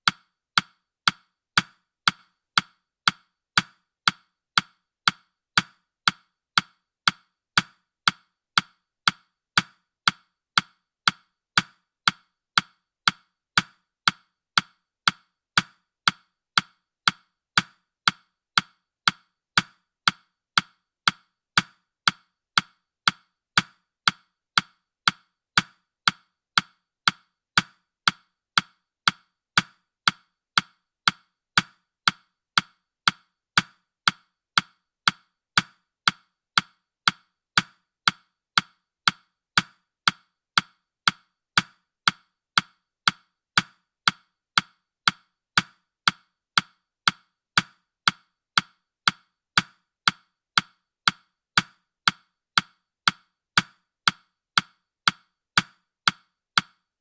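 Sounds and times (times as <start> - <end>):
timer ticking clicks: 0.0 - 56.8.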